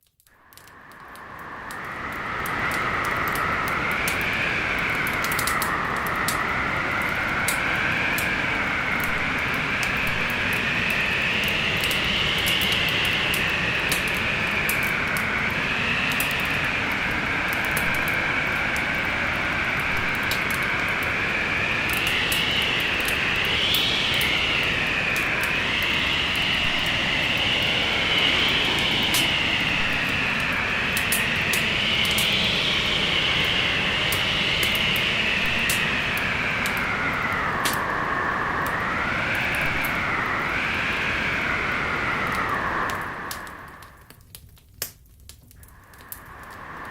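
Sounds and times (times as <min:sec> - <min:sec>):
wood fire crackling and popping: 0:00.0 - 0:38.0, 0:38.6 - 0:46.9
storm wind rushing: 0:00.4 - 0:44.1, 0:45.6 - 0:46.9.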